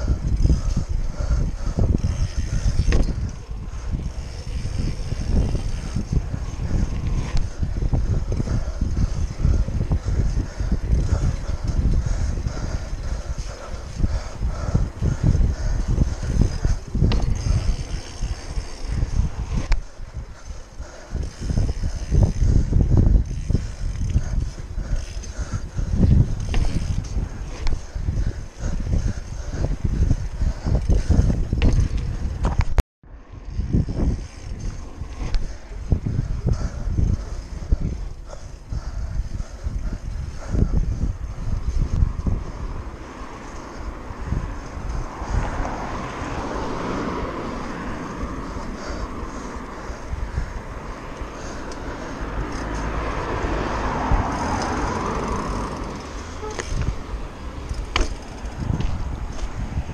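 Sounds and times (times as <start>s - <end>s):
vehicle passing: 0.0s - 32.4s, 33.1s - 59.9s
bike riding rumble: 0.0s - 59.9s.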